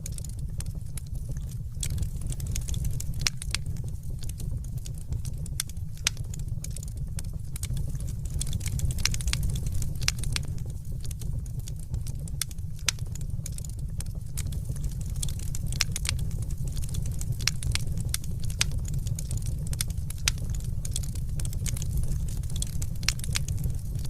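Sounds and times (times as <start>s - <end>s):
low fire rumble: 0.0s - 24.0s
wood fire crackling: 0.0s - 24.0s.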